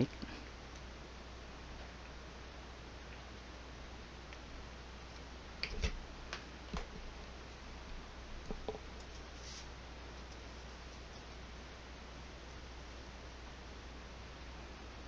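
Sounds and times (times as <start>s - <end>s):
faint hiss and hum: 0.0s - 15.0s.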